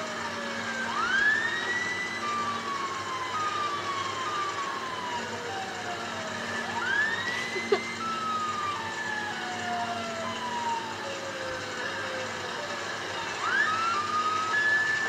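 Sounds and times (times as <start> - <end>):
police siren whoops and tones: 0.0 - 15.0.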